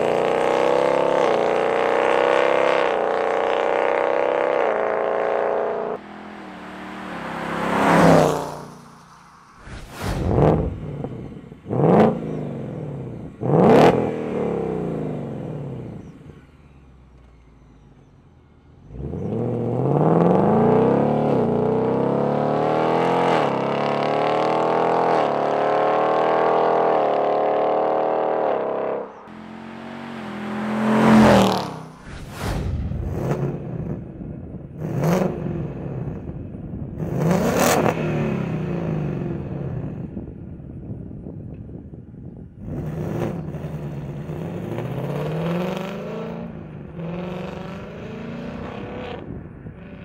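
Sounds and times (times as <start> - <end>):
car engine revving: 0.0 - 40.3, 42.6 - 50.0
car accelerating and shifting up: 0.0 - 40.5, 42.6 - 50.0.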